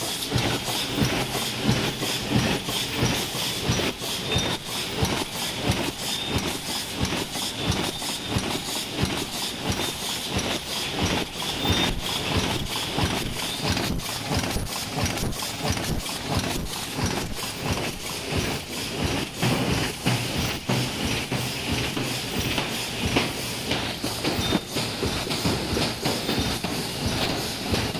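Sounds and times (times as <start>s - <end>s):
machine clattering: 0.0s - 27.9s.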